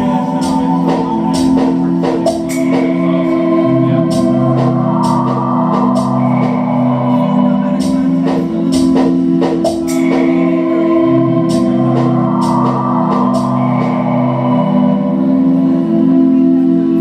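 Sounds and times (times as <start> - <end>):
loud layered drone: 0.0 - 17.0
lower tone: 0.0 - 17.0.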